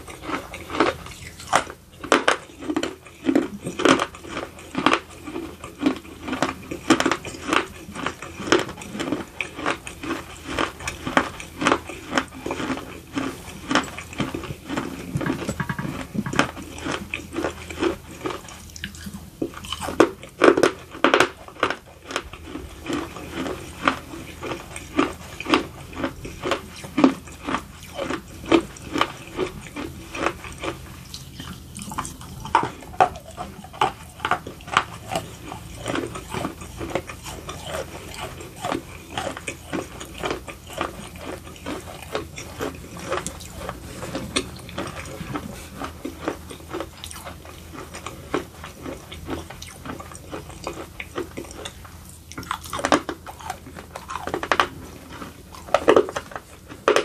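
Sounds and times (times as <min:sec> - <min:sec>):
crunchy chewing: 0:00.0 - 0:57.0.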